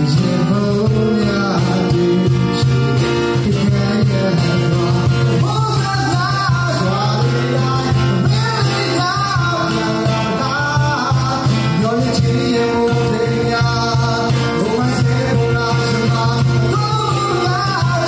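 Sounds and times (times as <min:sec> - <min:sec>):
cajon beat: 0:00.0 - 0:18.0
man singing: 0:00.0 - 0:18.0
strummed acoustic guitar: 0:00.0 - 0:18.0.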